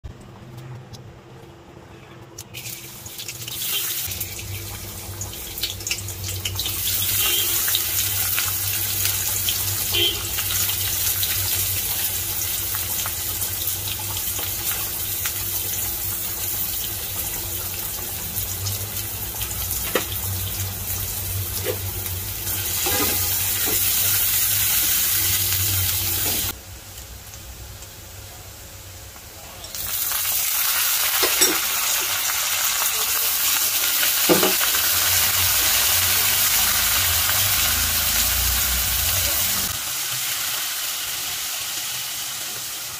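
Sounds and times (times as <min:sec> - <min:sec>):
onions sizzling in oil: 0:02.5 - 0:42.9.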